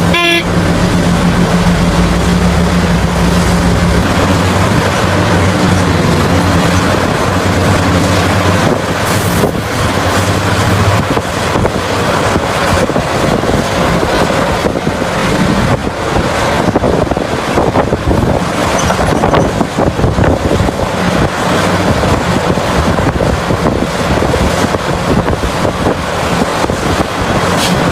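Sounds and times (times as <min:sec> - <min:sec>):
heavy diesel machinery running: 0:00.0 - 0:27.9
wind buffeting microphone: 0:00.0 - 0:27.9.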